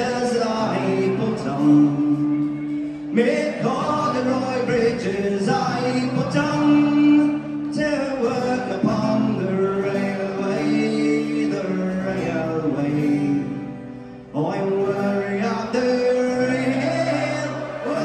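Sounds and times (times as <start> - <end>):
guitars: 0.0 - 18.0
person singing: 0.0 - 18.0.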